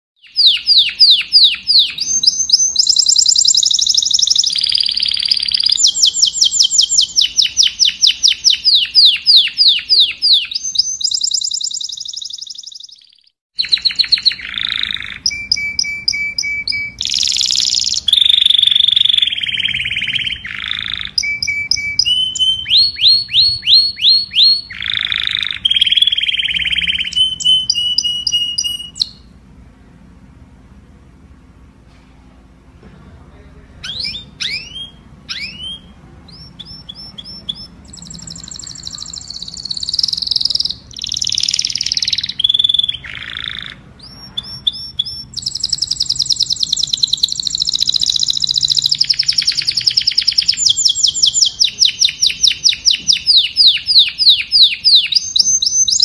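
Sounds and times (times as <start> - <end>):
canary singing trills: 0.2 - 29.4, 33.8 - 56.0.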